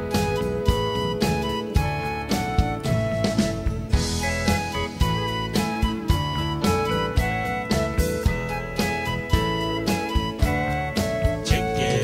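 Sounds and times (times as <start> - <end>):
drums keeping steady beat: 0.0 - 12.0.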